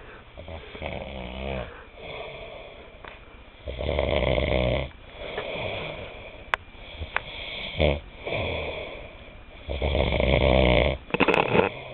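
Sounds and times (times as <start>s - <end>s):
man snoring: 0.4s - 2.8s, 3.6s - 11.9s.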